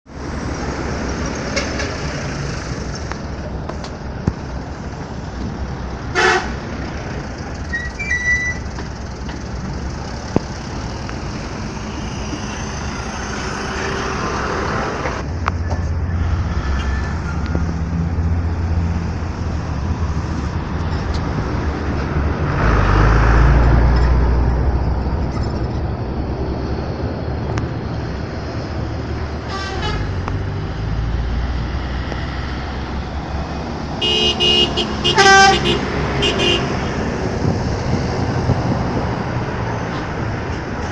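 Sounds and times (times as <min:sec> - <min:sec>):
heavy vehicles passing: 0:00.1 - 0:40.9.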